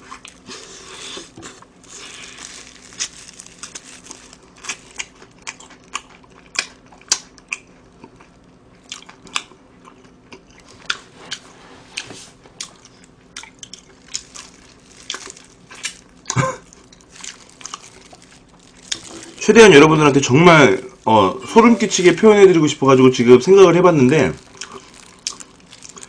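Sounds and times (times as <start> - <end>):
person chewing crispy chicken: 0.0 - 11.4, 12.0 - 21.5, 23.7 - 26.0.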